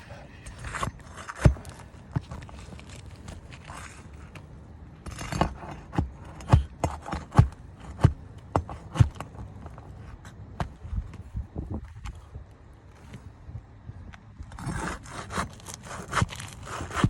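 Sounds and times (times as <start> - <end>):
knocks and scuffs on shingle roof: 0.5 - 13.4, 14.6 - 17.0.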